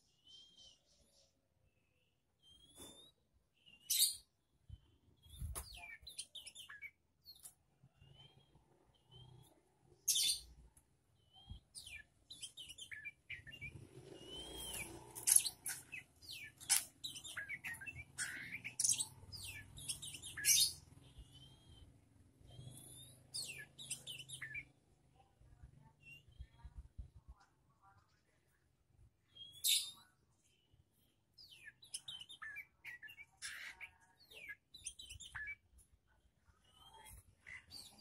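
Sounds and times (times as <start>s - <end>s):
songbirds chirping and calling: 0.0s - 38.0s.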